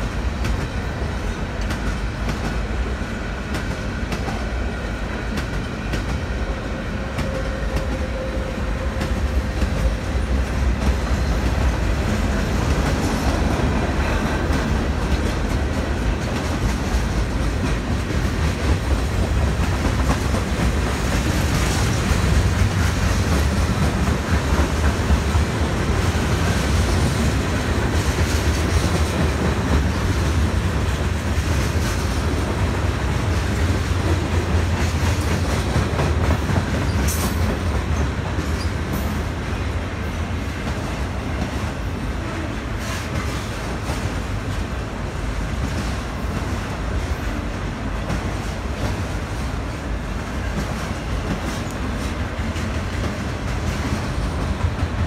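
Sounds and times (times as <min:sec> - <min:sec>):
freight train wheels rumbling: 0:00.0 - 0:55.0
train clickety-clack: 0:00.0 - 0:55.0.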